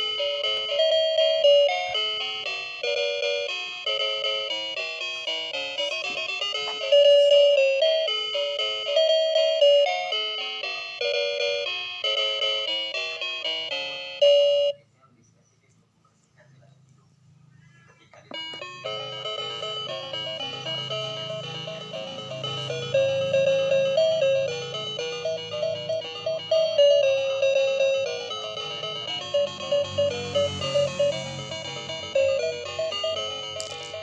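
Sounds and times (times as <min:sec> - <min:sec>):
tinkling bell-like tune: 0:00.0 - 0:14.8, 0:18.4 - 0:34.0.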